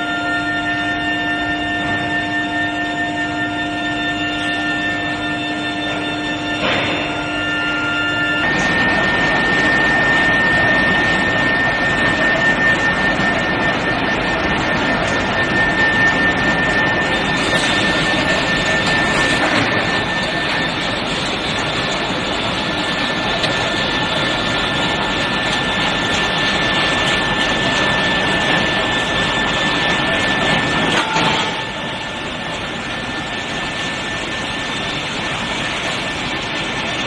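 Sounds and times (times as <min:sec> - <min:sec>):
high whine: 0:00.0 - 0:37.0
loud machinery noise: 0:00.0 - 0:37.0.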